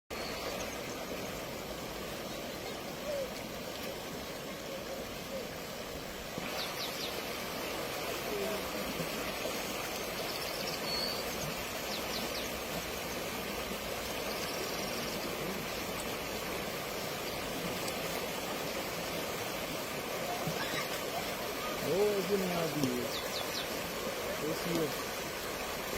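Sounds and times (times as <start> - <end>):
floodwater rushing: 0.1 - 25.9.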